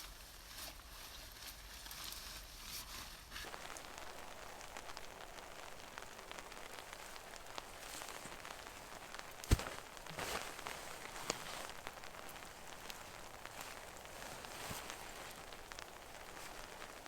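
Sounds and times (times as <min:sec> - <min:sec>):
steady rain falling: 0:03.2 - 0:17.0.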